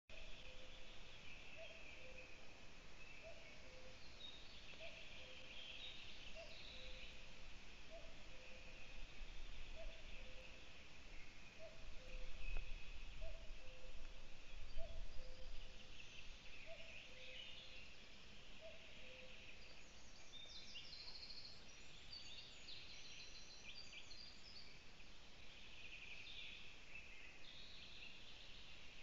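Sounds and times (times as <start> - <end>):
songbirds singing: 0.1 - 29.0.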